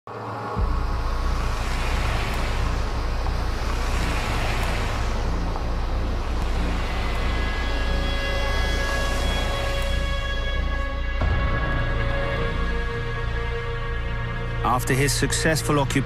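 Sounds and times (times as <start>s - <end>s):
trucks driving past: 0.1s - 13.5s
sustained music tones: 0.1s - 16.0s.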